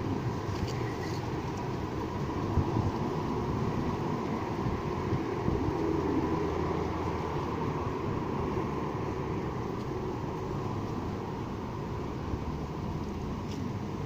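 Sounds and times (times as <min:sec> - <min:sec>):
road traffic hum: 0:00.0 - 0:14.0
wind rustling leaves: 0:00.0 - 0:14.0.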